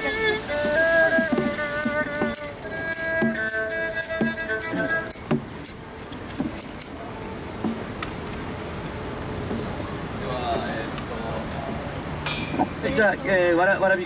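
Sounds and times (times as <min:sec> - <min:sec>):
jingling rattle: 0:00.0 - 0:12.5.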